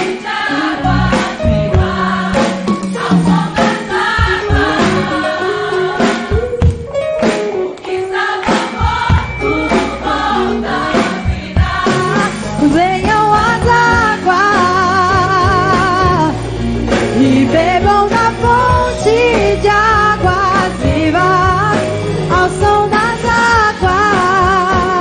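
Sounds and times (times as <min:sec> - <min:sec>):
gospel band with drums: 0:00.0 - 0:25.0
voices singing: 0:00.0 - 0:25.0.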